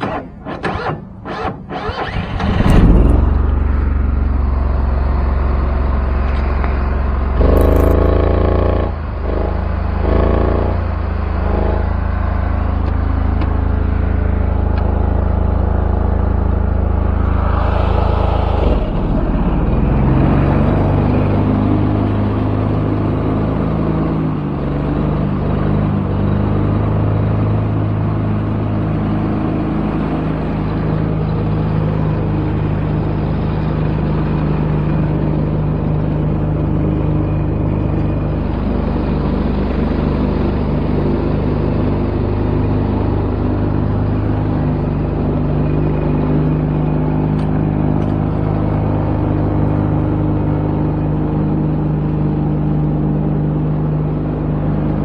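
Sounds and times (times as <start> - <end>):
mower engine running: 0.0 - 55.0.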